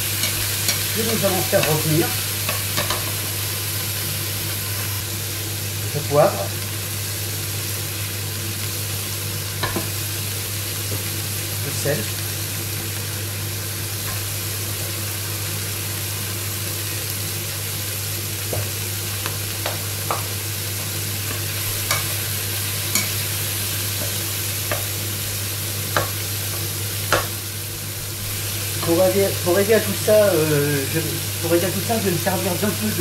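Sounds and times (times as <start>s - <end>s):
vegetables sizzling in a frying pan: 0.0s - 33.0s.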